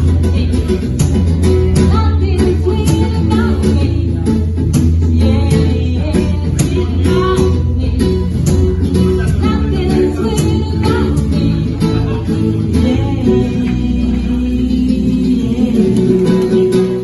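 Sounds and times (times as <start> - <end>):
guitar: 0.0 - 17.0
person singing: 0.0 - 17.0.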